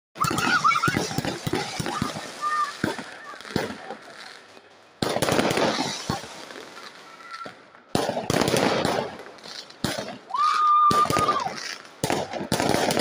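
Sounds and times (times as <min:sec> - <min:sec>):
fireworks bangs: 0:00.2 - 0:13.0
fireworks crackling: 0:00.2 - 0:13.0.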